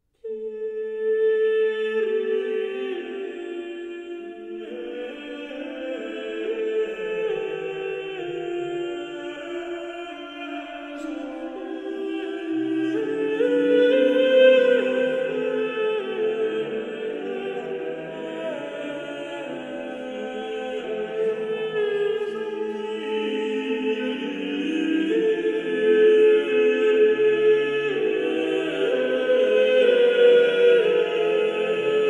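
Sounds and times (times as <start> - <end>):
voices singing together: 0.2 - 32.0.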